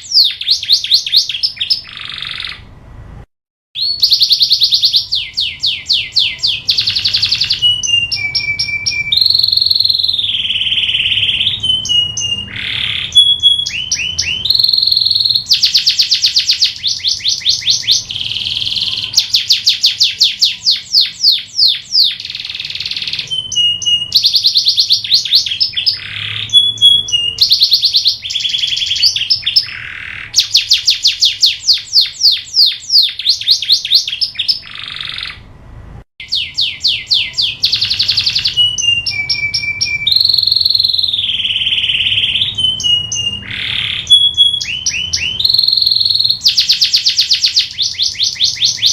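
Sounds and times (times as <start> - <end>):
canary singing trills: 0.0 - 2.8, 3.8 - 35.5, 36.2 - 48.9.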